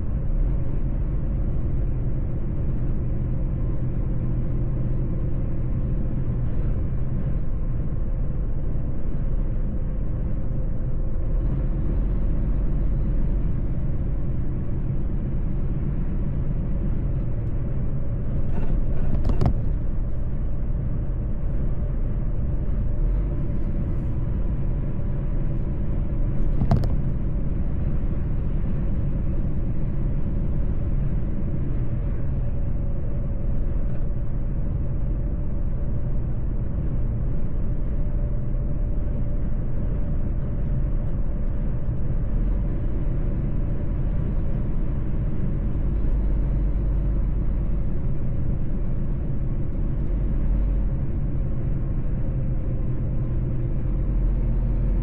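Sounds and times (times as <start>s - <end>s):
faint steady hum: 0.0s - 55.0s
truck engine and road rumble: 0.0s - 55.0s.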